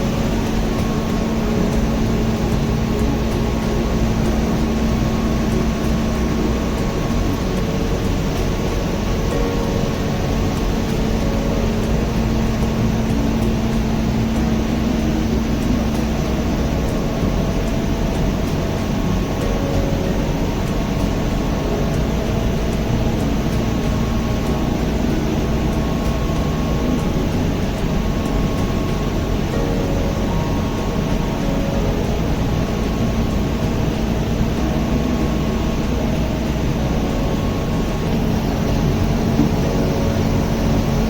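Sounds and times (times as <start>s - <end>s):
machinery drone: 0.0s - 41.0s.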